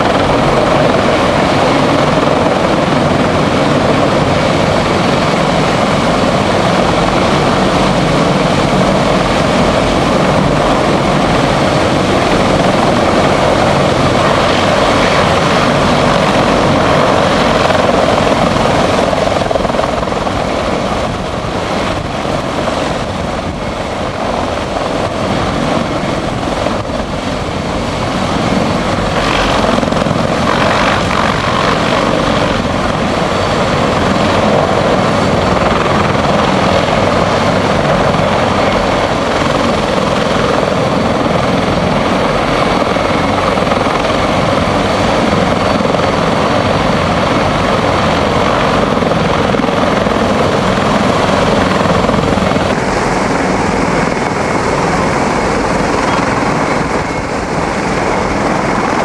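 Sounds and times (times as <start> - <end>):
helicopter rotor and turbine drone: 0.0 - 59.0.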